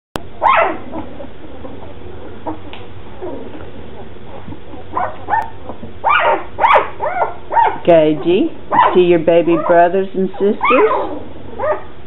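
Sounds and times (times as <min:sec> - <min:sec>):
puppies whimpering and squeaking: 0:00.2 - 0:12.0.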